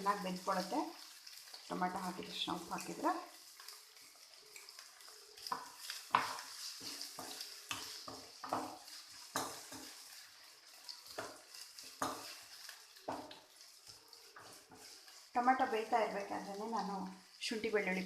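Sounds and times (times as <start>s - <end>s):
frying sizzle: 0.0s - 18.0s
spoon scraping cooking pan: 0.0s - 18.0s.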